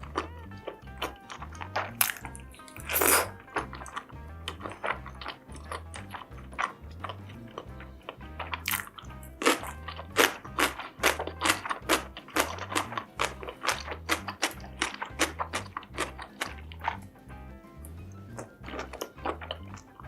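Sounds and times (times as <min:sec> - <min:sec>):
crunchy biting and chewing: 0:00.0 - 0:17.2, 0:17.8 - 0:20.0
background music with low beat: 0:00.0 - 0:20.0.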